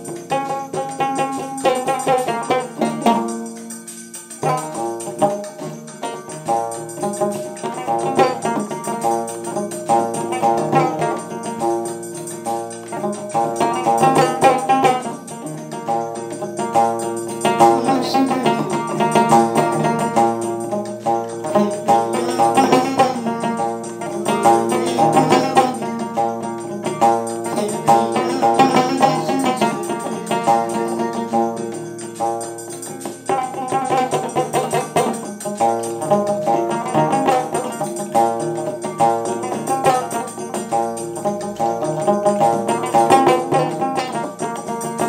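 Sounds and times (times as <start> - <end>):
plucked string instrument: 0.0 - 45.0.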